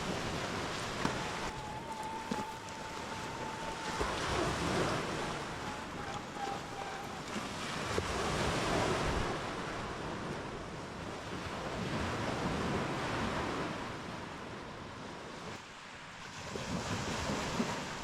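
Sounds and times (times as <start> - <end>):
wind on microphone: 0.0 - 15.5
lake waves washing onto shore: 0.0 - 18.0.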